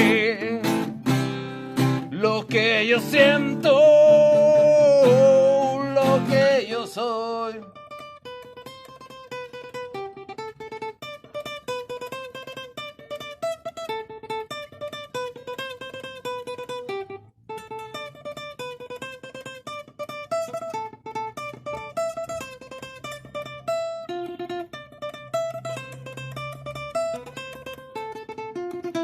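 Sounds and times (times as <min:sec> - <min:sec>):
acoustic guitar picking and strumming: 0:00.0 - 0:29.0.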